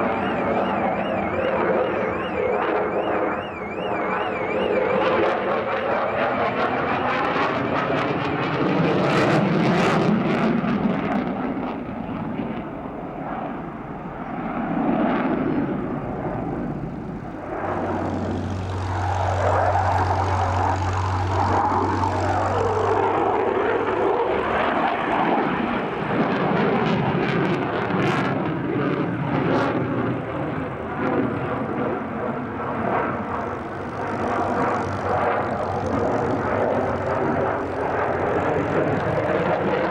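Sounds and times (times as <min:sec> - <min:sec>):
aircraft engine passing: 0:00.0 - 0:39.9.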